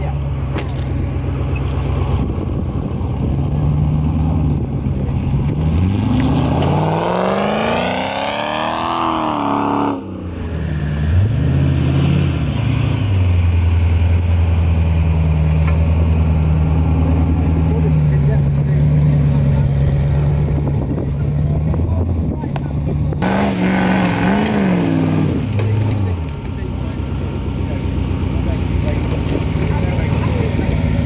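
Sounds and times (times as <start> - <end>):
buggy engine revving: 0.0 - 31.0.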